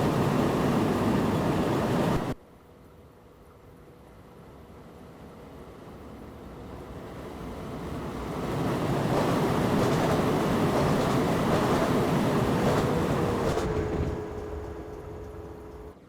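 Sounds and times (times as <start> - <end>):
train rushing noise inside cab: 0.0 - 2.4, 3.0 - 16.0.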